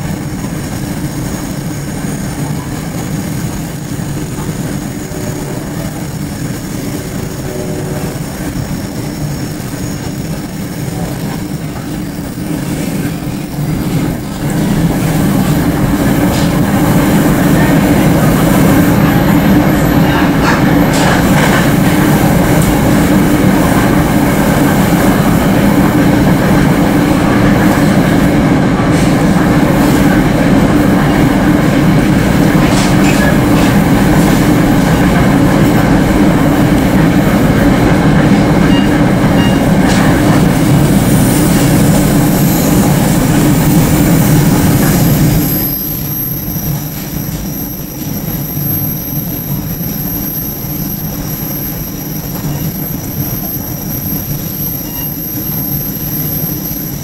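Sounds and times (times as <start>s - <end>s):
thin high whine: 0.0s - 57.0s
train rumble inside car: 0.0s - 57.0s.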